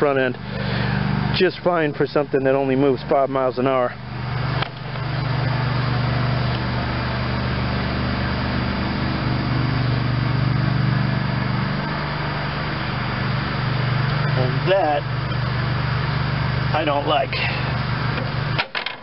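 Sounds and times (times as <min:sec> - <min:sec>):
motor humming with hiss: 0:00.0 - 0:18.7.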